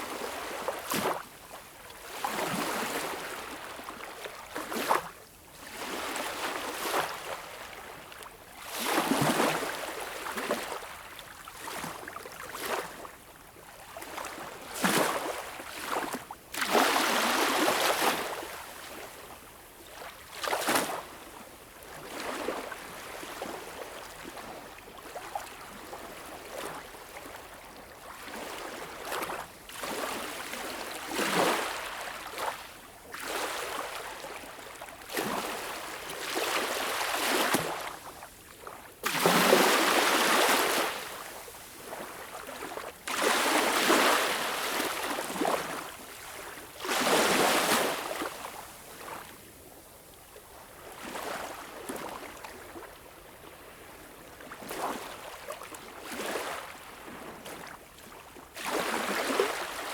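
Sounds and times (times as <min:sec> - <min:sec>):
small waves lapping on beach: 0:00.0 - 0:59.9.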